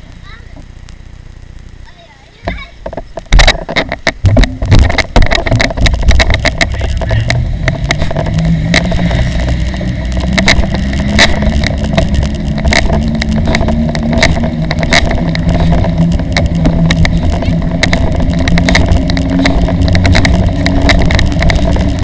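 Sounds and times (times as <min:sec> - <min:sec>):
wheels rolling on road: 0:00.0 - 0:22.0
scattered clicks: 0:00.1 - 0:22.0
knocks and clatter: 0:02.4 - 0:22.0
wind on microphone: 0:02.8 - 0:22.0.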